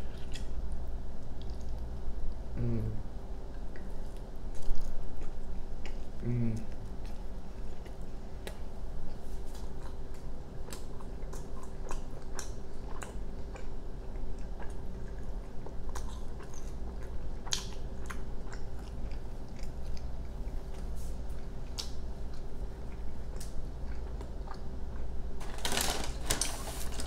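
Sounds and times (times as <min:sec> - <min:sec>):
steady low hum: 0:00.0 - 0:27.0
person chewing with mouth clicks: 0:01.3 - 0:01.9, 0:03.5 - 0:25.1.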